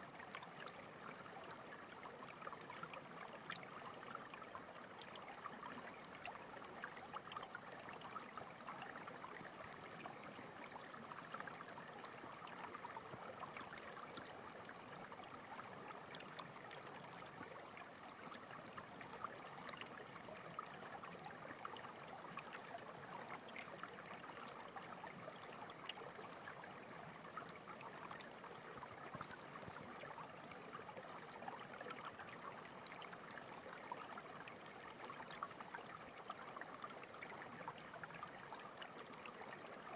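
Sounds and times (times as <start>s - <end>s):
stream water trickling over stones: 0.0s - 39.9s.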